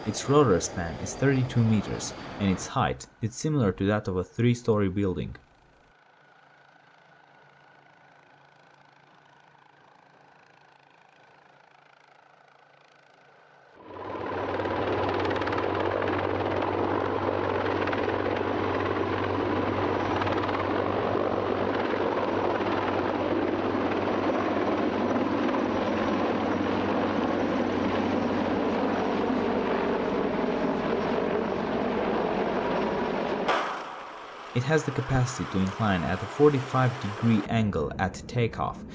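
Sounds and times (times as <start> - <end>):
helicopter engines and rotor: 0.0 - 3.0, 5.4 - 37.5.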